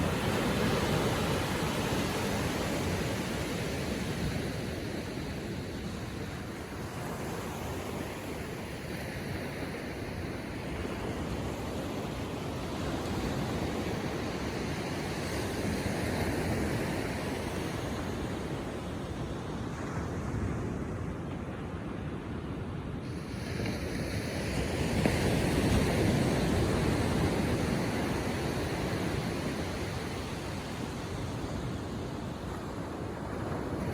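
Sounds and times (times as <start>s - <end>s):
ocean waves lapping on shore: 0.0s - 33.9s.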